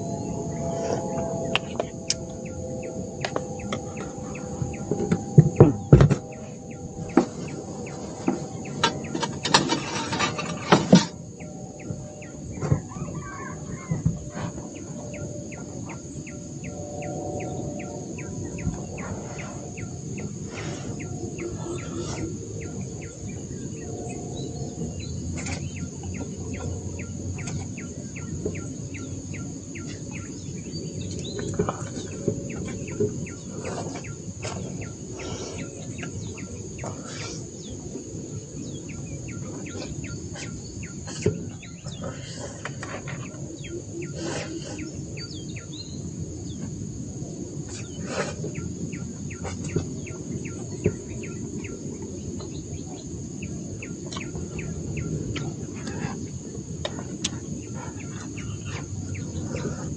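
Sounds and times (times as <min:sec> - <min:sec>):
birds calling: 0:00.0 - 0:59.9
high insect drone: 0:00.0 - 0:59.9.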